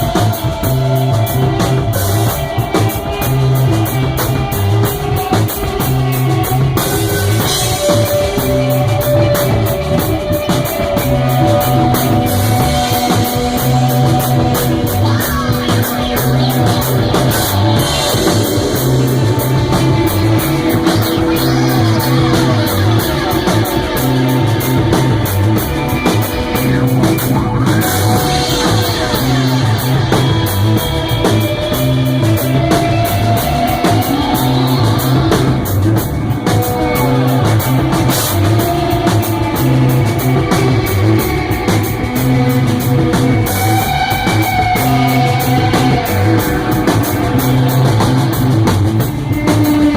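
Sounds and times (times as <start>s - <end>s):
cymbals struck in even rhythm: 0.0s - 49.9s
electric guitar sliding notes: 0.0s - 49.9s
rock band playing live: 0.0s - 49.9s.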